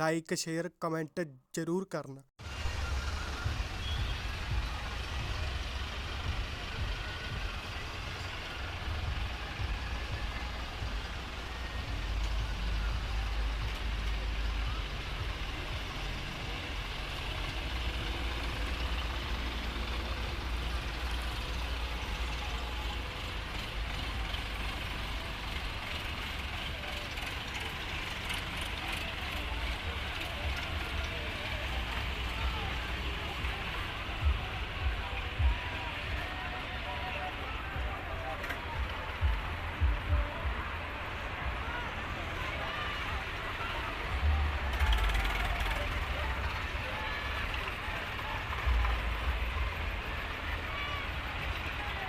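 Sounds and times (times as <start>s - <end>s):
road and traffic noise: 0.0s - 52.0s
tractor engines rumbling: 0.0s - 52.0s.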